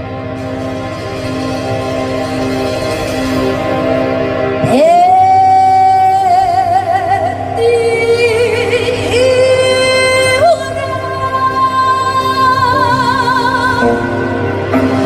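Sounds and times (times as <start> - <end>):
band accompaniment: 0.0 - 15.0
wavering lead melody with vibrato: 0.0 - 15.0.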